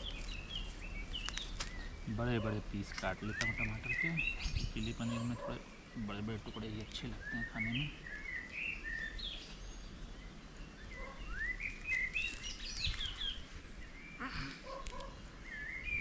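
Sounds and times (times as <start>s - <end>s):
birds singing and chirping: 0.0s - 16.0s.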